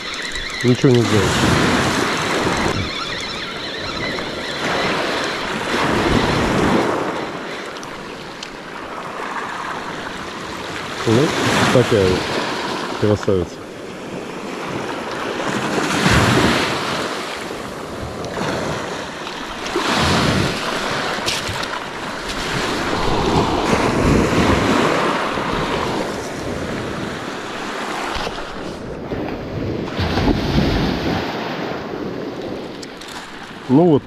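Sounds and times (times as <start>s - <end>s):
wind on microphone: 0.0s - 8.2s, 13.9s - 33.0s
waves breaking on beach: 0.0s - 34.0s.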